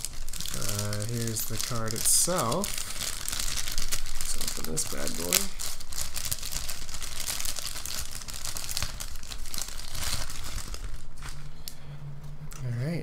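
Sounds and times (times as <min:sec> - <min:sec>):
metallic bag crinkling: 0:00.0 - 0:11.4.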